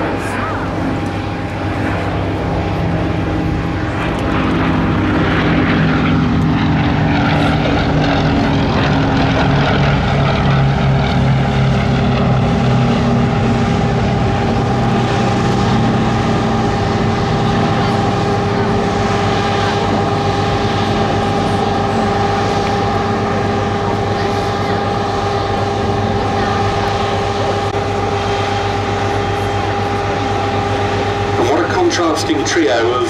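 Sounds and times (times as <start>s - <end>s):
propeller aircraft engine drone: 0.0s - 33.0s.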